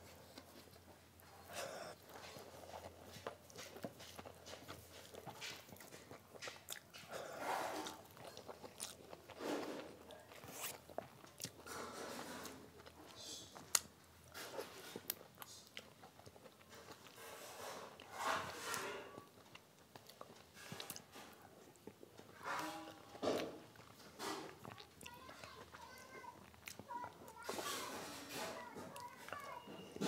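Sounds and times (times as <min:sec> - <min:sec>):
chewing and mouth smacks: 0:00.3 - 0:22.4, 0:23.1 - 0:27.8.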